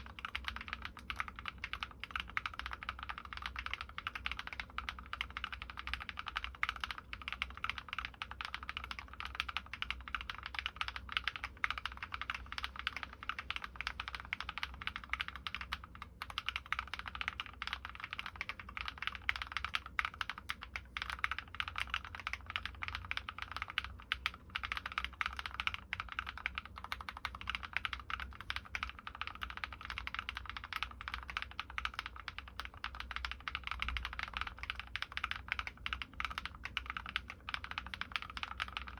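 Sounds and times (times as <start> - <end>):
rapid typing on mechanical keyboard: 0.0 - 38.9.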